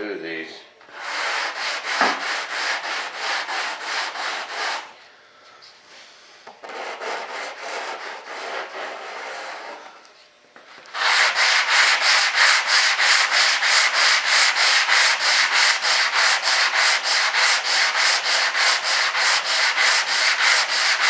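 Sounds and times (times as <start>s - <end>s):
sandpaper rasping on filler: 0.9s - 5.0s, 6.6s - 9.8s, 10.9s - 21.0s.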